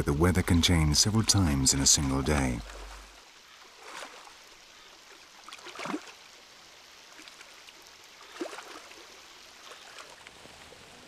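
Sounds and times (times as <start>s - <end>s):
faint wash of water: 0.0s - 11.0s
water splashes: 0.0s - 11.0s.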